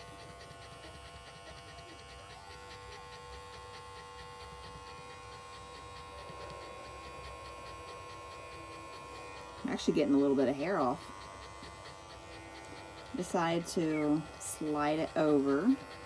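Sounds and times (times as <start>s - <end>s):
electric clippers humming: 0.0s - 16.0s.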